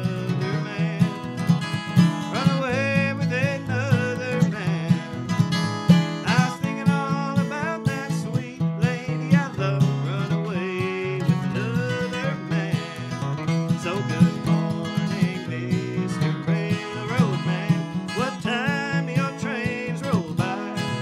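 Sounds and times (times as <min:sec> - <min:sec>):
acoustic guitar flatpicking: 0:00.0 - 0:21.0.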